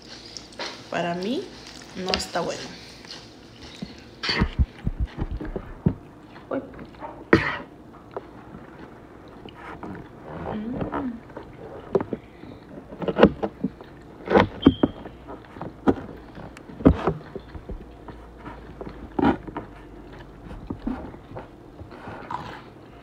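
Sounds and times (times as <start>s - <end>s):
chewing and mouth noises: 0.0s - 0.9s, 1.5s - 23.0s.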